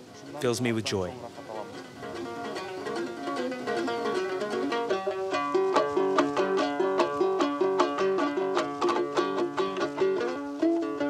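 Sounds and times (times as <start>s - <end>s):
strummed lute: 0.0s - 11.0s.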